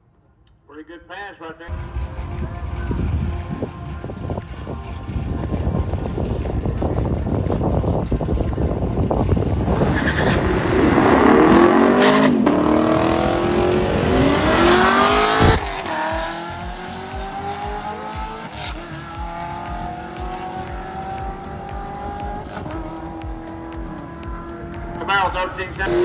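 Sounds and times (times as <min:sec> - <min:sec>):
race car accelerating: 0:01.7 - 0:26.0.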